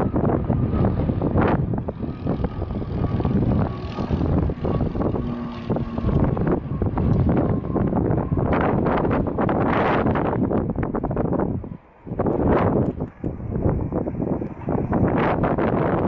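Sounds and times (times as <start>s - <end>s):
aircraft engine running: 0.0s - 16.0s
wind buffeting microphone: 0.0s - 16.0s.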